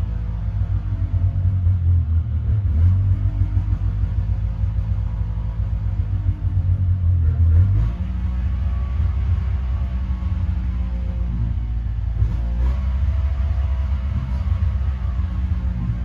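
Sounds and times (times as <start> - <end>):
snowmobile engine running roughly: 0.0 - 16.0.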